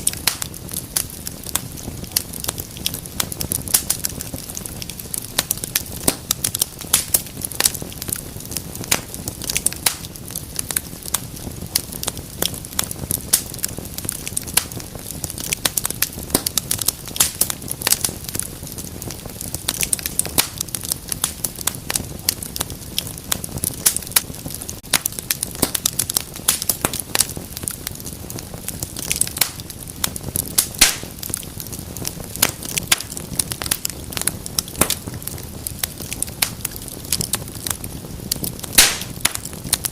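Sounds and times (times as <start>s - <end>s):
low rush of flames: 0.0s - 39.9s
wood fire crackling and popping: 0.0s - 39.9s.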